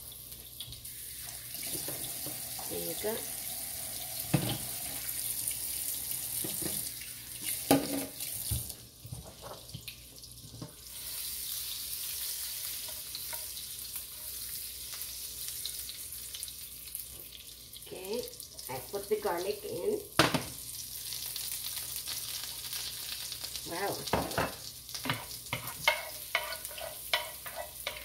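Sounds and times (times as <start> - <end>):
butter sizzling in a frying pan: 0.0 - 28.0.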